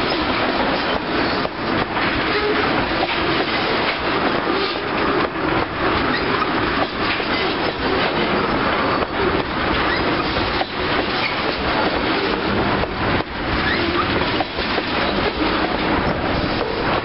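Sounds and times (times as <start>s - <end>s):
rumble of train wheels on rail: 0.0s - 17.0s
wheels clicking over rail joints: 0.0s - 17.0s.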